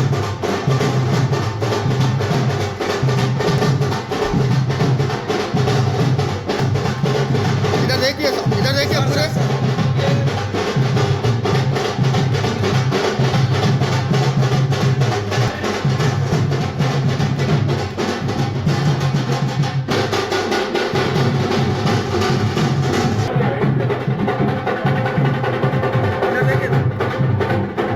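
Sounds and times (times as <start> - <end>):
loud music with fast drum beat: 0.0 - 27.9.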